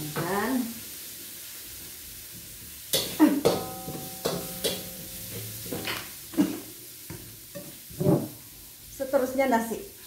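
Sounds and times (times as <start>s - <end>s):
spatula scraping a wok: 0.0s - 8.9s
oil sizzling: 0.0s - 10.0s.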